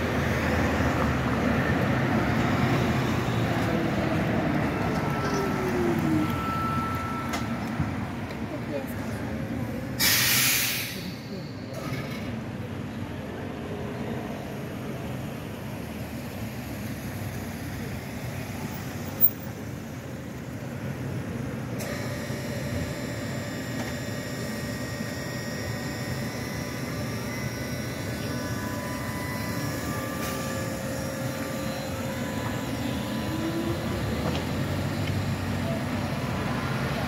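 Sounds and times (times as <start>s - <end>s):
electric tram motor whine: 0.0s - 8.5s, 14.4s - 37.0s
street traffic: 0.0s - 37.0s.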